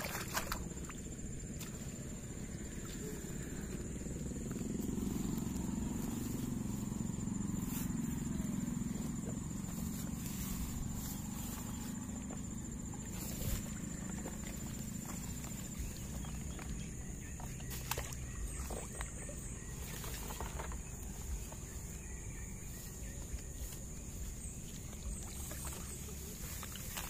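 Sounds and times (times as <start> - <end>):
insect trill: 0.0 - 27.0
rustling grass: 1.7 - 27.0.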